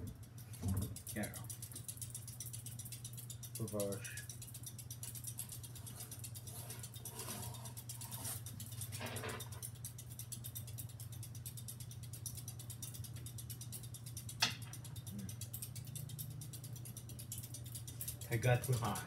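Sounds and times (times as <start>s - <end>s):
ceiling fan motor humming: 0.0s - 19.0s
fan ticking rattle: 0.0s - 19.0s.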